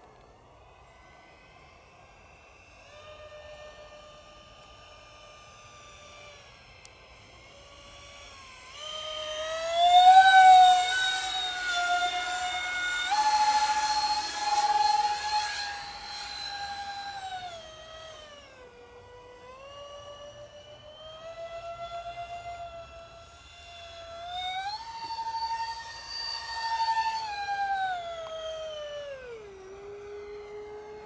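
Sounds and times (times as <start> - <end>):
model jet electric fans whining: 0.0 - 31.0.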